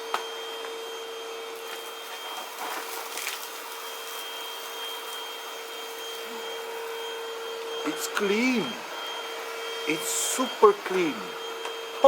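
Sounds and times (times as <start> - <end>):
stick vacuum cleaner running: 0.0 - 12.0.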